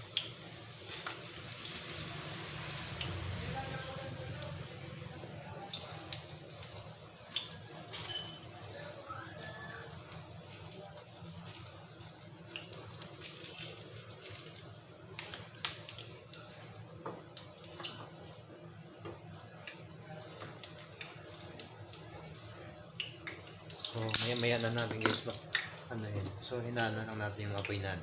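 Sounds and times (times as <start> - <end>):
oil popping and crackling: 0.0 - 28.0
patties sizzling in oil: 0.0 - 28.0.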